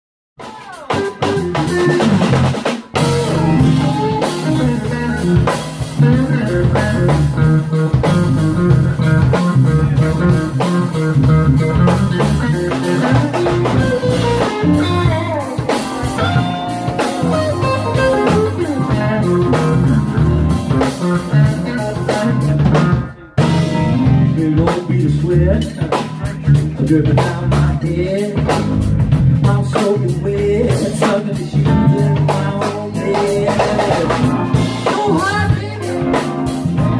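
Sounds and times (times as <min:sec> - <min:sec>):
drum kit: 0:00.4 - 0:36.9
electric guitar lead: 0:00.4 - 0:36.9
keyboard: 0:00.4 - 0:36.9.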